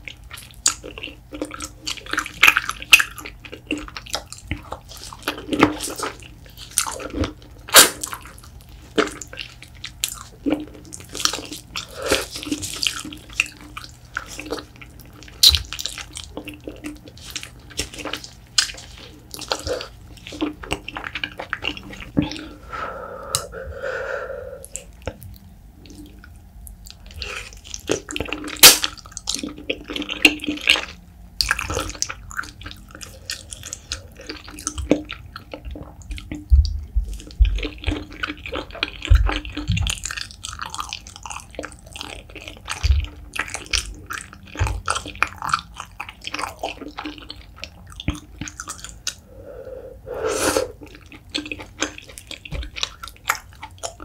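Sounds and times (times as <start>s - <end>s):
wet chewing and lip smacking: 0.0s - 22.6s, 24.6s - 54.0s.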